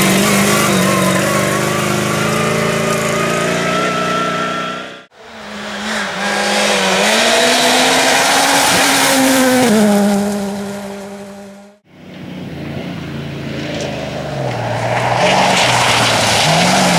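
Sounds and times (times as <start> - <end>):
rally car passing at speed: 0.0 - 16.9.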